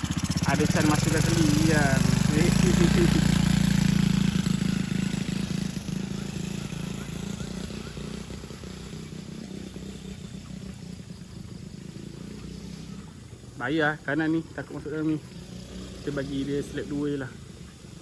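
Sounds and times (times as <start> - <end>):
motocross bike engine running: 0.0 - 18.0.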